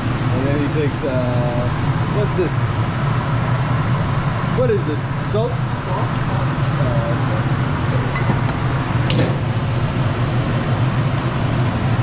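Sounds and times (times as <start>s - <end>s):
gas burners roaring: 0.0s - 12.0s.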